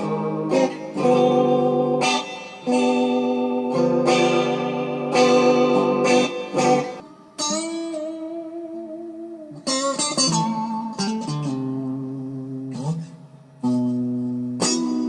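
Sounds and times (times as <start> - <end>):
electric guitar picked notes: 0.0 - 15.0.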